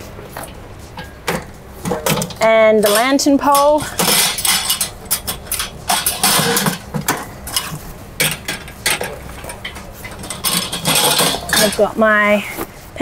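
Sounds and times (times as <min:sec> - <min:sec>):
metal racks and poles clinking: 0:00.3 - 0:13.0.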